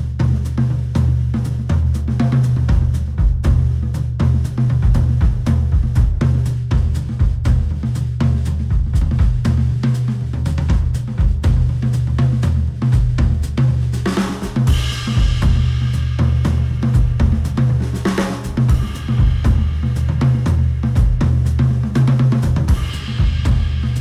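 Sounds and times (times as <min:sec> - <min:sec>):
instrumental music with drums and bass: 0:00.0 - 0:24.0.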